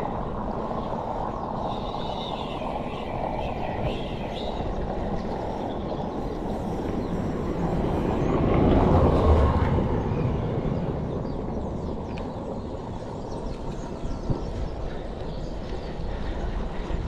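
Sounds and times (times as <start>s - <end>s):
wind and road noise on microphone: 0.0s - 17.0s.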